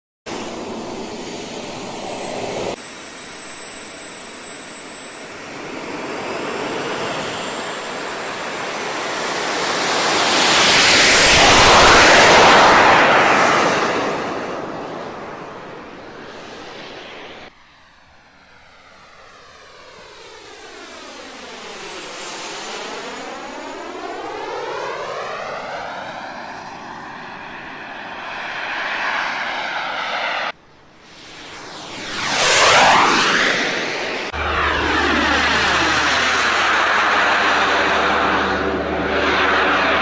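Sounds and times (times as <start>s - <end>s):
jet aircraft flying past: 0.3s - 40.0s.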